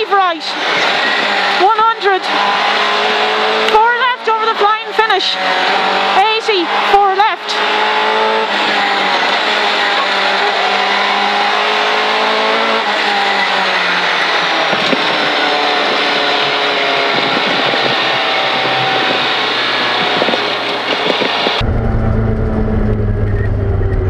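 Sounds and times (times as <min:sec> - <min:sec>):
car engine at high revs: 0:00.0 - 0:24.0
tyre and road noise: 0:00.0 - 0:24.0.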